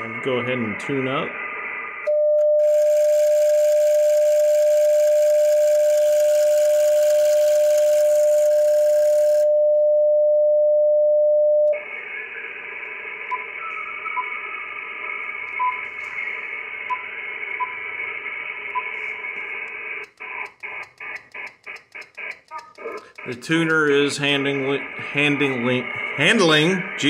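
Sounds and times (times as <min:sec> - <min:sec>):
radio receiver static: 0:00.0 - 0:09.5, 0:11.8 - 0:27.0
radio tuning tone: 0:00.0 - 0:09.5, 0:11.7 - 0:27.0.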